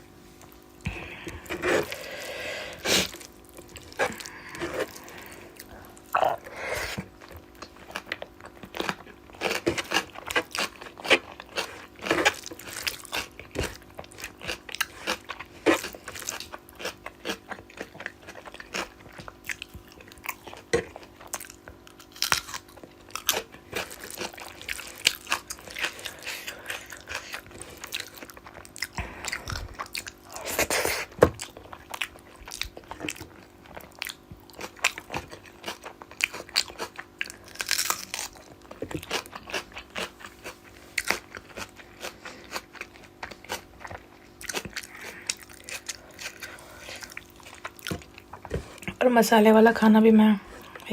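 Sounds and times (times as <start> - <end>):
chewing and crunching food: 0.3 - 50.9.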